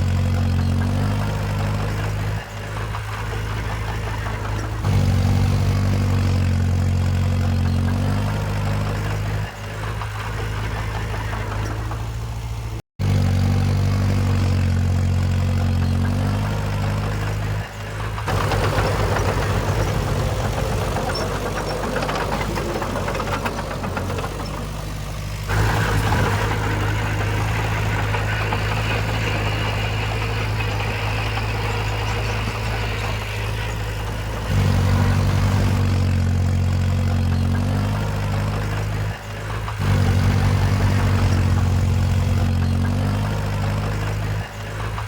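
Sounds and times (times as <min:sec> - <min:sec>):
heavy machinery diesel engines running: 0:00.0 - 0:45.0.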